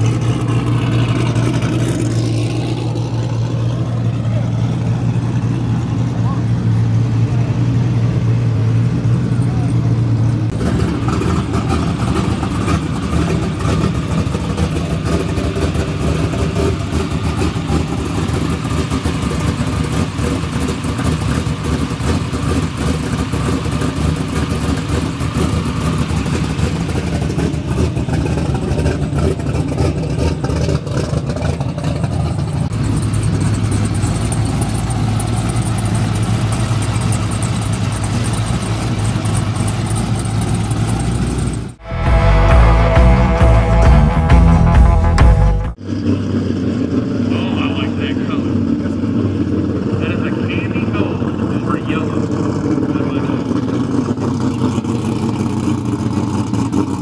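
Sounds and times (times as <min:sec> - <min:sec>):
car engine running at low revs: 0:00.0 - 0:57.0.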